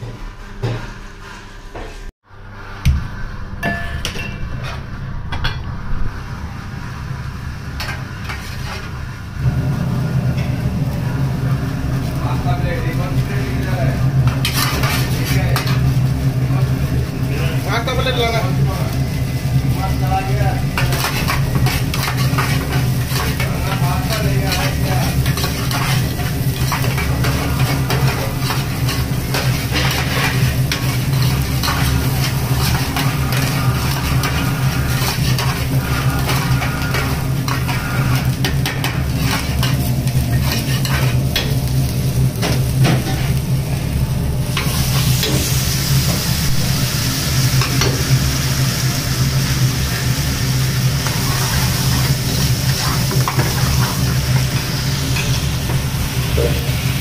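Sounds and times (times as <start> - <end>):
oil sizzling in frying pan: 6.1 - 57.0.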